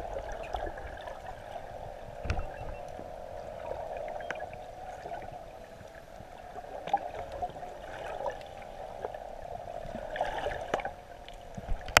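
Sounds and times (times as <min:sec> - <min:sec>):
underwater clicks and crackles: 0:00.0 - 0:12.0
underwater water noise: 0:00.0 - 0:12.0.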